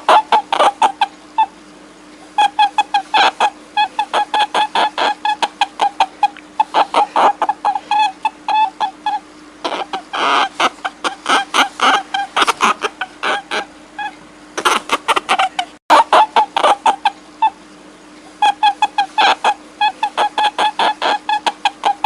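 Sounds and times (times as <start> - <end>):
high-pitched animal calls: 0.0 - 1.6, 2.2 - 17.7, 18.3 - 22.0
steady low hum: 0.0 - 22.0.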